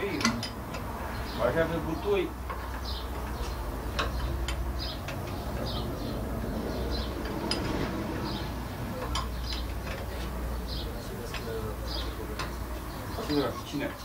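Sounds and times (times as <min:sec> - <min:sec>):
low steady rumble: 0:00.0 - 0:13.1
small birds chirping: 0:00.0 - 0:14.0.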